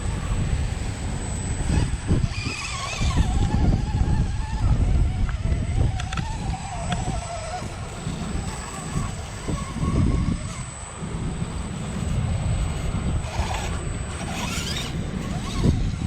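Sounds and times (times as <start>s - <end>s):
faint high whine: 0.0s - 16.0s
wind buffeting microphone: 0.0s - 16.0s.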